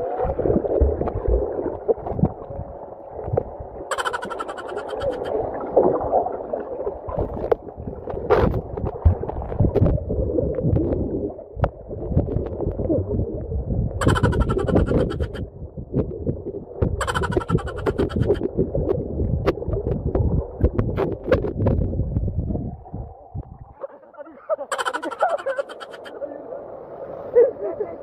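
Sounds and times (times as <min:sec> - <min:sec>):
underwater rumble and gurgle: 0:00.0 - 0:24.0.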